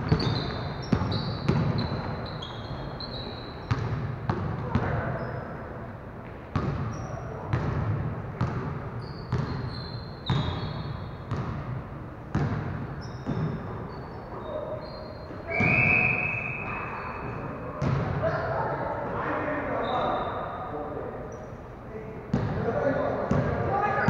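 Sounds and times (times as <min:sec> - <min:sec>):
sneakers squeaking: 0:00.0 - 0:21.6.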